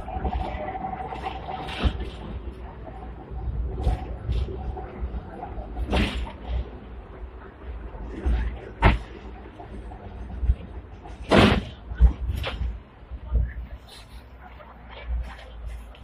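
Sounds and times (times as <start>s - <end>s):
tram clatters and knocks: 0.0s - 16.0s
tram rumble: 0.0s - 16.0s.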